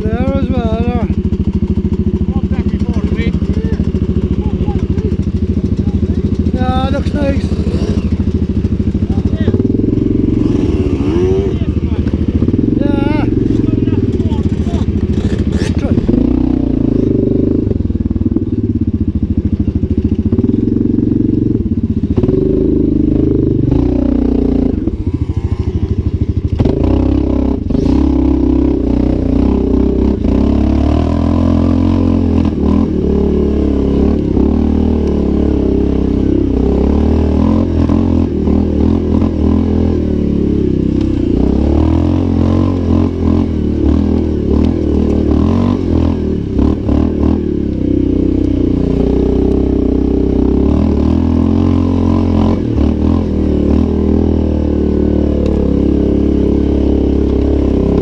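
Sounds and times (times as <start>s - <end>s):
quad bike clattering: 0.0s - 58.0s
quad bike engine revving: 0.0s - 58.0s.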